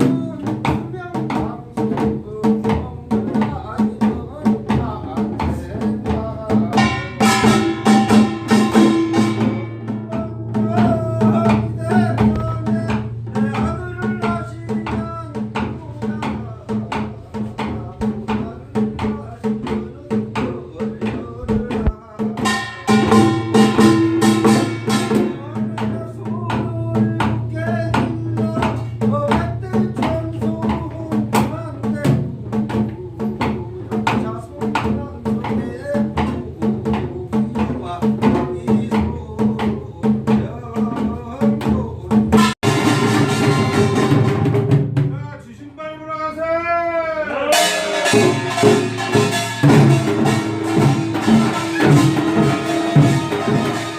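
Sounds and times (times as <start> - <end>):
folk drums and gongs: 0.0 - 53.9.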